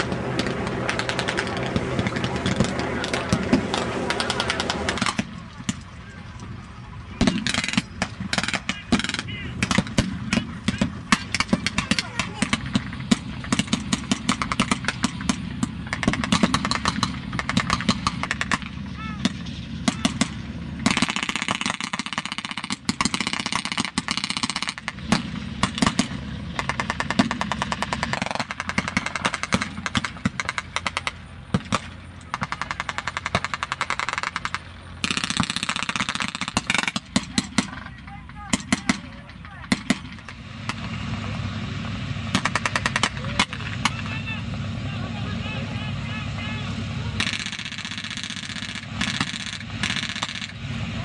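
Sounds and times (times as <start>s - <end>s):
gunfire bursts: 0.0s - 5.3s, 7.2s - 37.9s, 38.5s - 40.9s, 47.2s - 50.6s
vehicle engine running: 0.0s - 51.0s.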